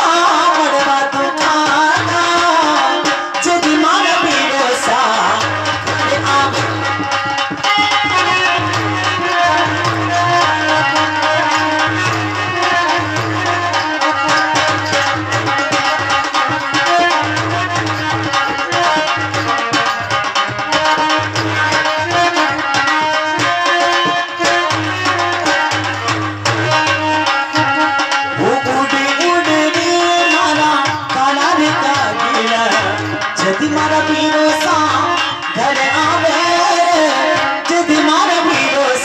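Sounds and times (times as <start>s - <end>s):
hand drums fast rhythm: 0.0s - 39.0s
harmonium melody: 0.0s - 39.0s.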